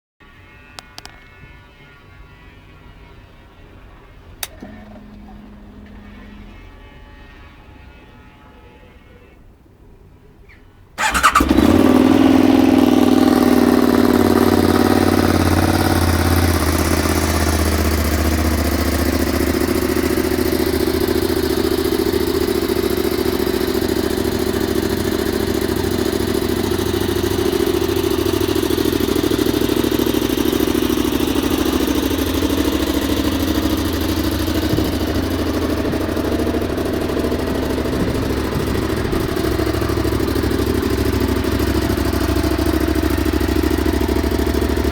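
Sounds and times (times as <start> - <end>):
motorcycle engine starting and idling: 4.4 - 8.0, 11.0 - 44.9.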